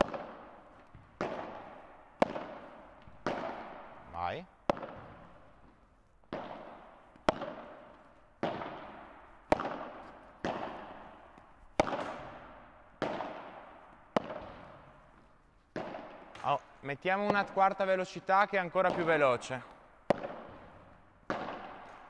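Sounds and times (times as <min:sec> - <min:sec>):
rackets hitting ball: 0:00.0 - 0:22.0.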